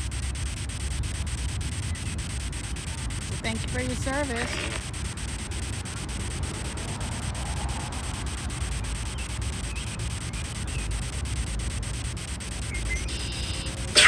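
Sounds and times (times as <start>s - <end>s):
low rumble: 0.0s - 13.9s
radio static hiss: 0.0s - 14.0s
rapid ticks: 0.0s - 14.0s.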